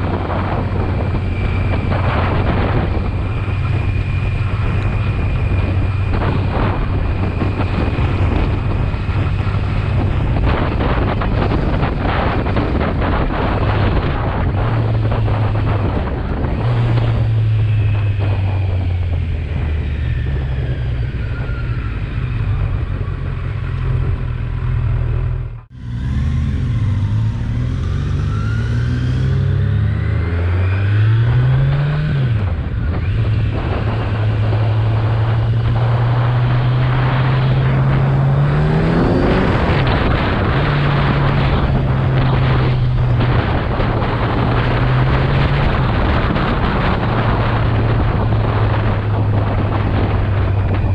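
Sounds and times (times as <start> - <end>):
motorcycle engine revving: 0.0 - 50.9
wind rushing over microphone: 0.0 - 50.9.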